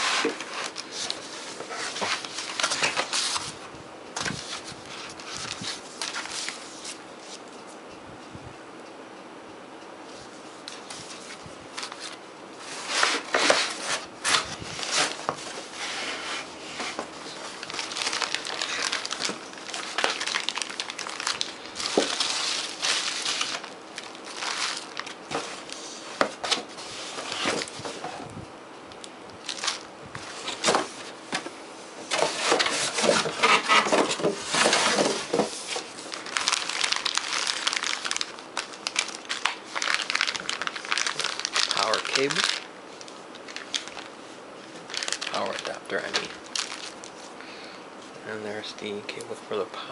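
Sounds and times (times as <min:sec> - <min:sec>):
plastic and bubble wrap crinkling: 0:00.0 - 0:03.6, 0:04.2 - 0:07.4, 0:10.7 - 0:28.3, 0:28.9 - 0:31.2, 0:32.1 - 0:47.4.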